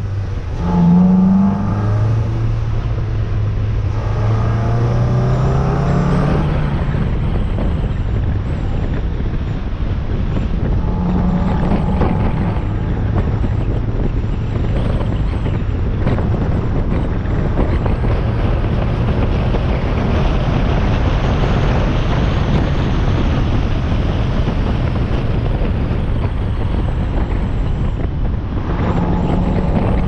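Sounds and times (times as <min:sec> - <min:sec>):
car engine running: 0:00.0 - 0:30.0
wind buffeting microphone: 0:00.0 - 0:30.0.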